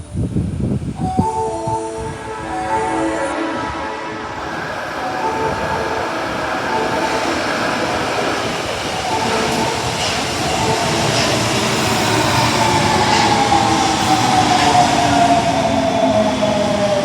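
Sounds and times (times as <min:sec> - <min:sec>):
subway train running on track: 0:00.0 - 0:17.0.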